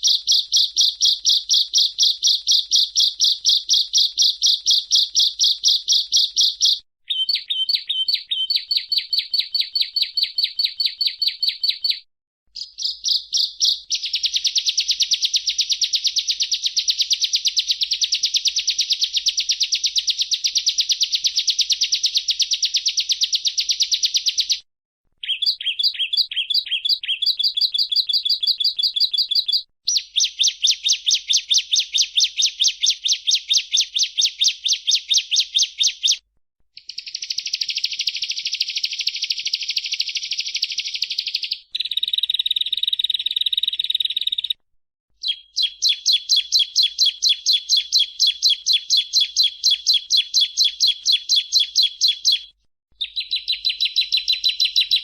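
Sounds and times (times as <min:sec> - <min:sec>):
bird chirping rapidly: 0:00.0 - 0:24.6, 0:25.2 - 0:36.2, 0:36.8 - 0:44.6, 0:45.2 - 0:55.0.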